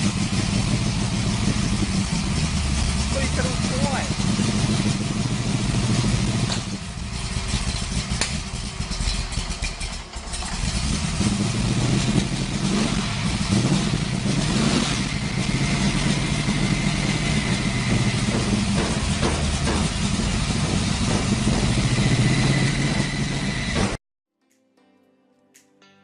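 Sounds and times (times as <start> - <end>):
car engine running loud: 0.0 - 24.0.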